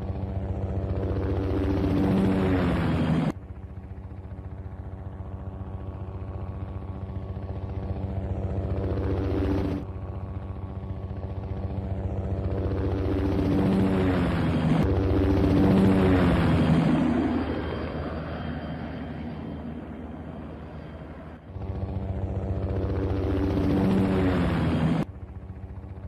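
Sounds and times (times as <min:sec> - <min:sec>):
helicopter engine hum: 0:00.0 - 0:26.0
helicopter rotor chop: 0:00.0 - 0:26.0.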